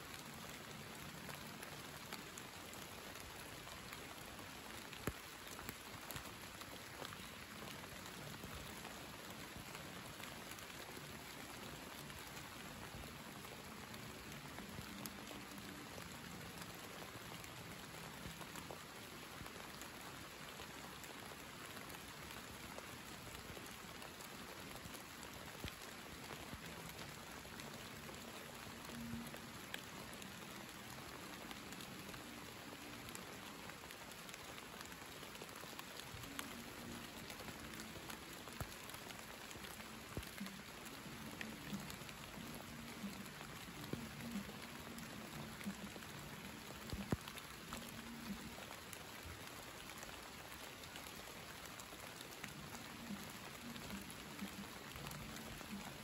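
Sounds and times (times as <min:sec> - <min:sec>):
rain hissing: 0:00.0 - 0:56.0
raindrop ticks: 0:00.1 - 0:56.0.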